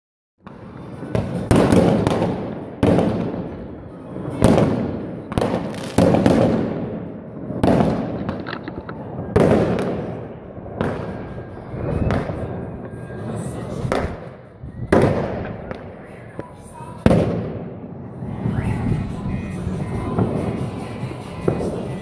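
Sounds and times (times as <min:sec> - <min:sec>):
fireworks bangs echoing: 0:00.4 - 0:12.8, 0:13.8 - 0:18.5, 0:19.6 - 0:22.0.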